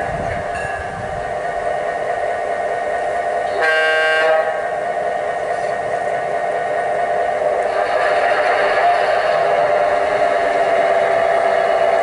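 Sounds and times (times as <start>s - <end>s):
model diesel engine sound: 0.0s - 12.0s.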